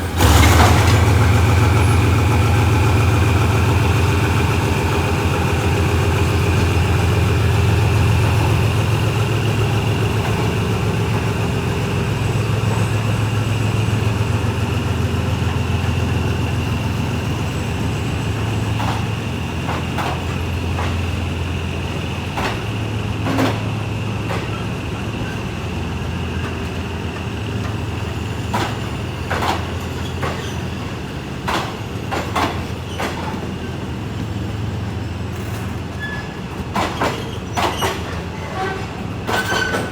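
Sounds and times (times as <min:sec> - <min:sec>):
diesel train engine humming: 0:00.0 - 0:39.9.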